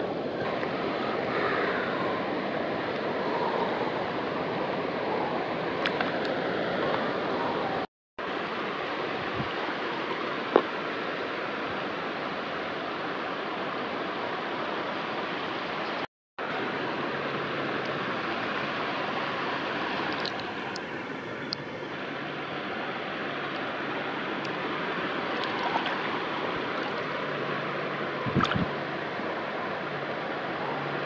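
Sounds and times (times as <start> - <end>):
flowing river water: 0.0 - 31.0.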